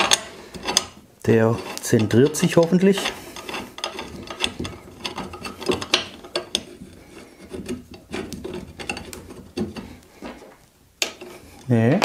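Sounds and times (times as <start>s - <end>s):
metal parts scraping and clicking: 0.0s - 11.7s.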